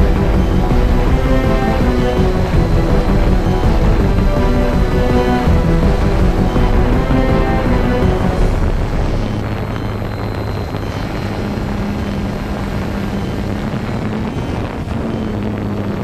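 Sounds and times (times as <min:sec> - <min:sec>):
drone propellers humming: 0:00.0 - 0:16.0
rushing noise: 0:00.0 - 0:16.0.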